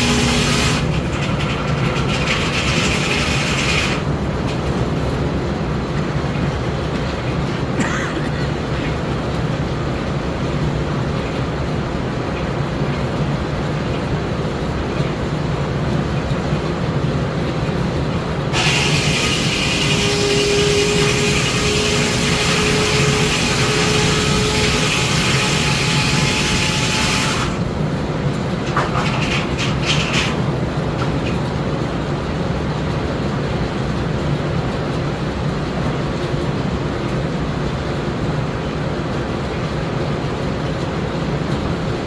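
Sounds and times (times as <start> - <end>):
sawmill mechanical drone: 0.0 - 42.0.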